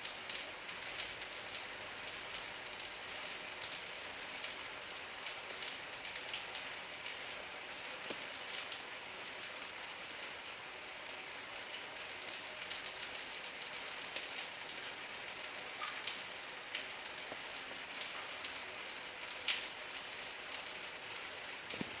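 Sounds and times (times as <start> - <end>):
light rain falling: 0.0 - 22.0.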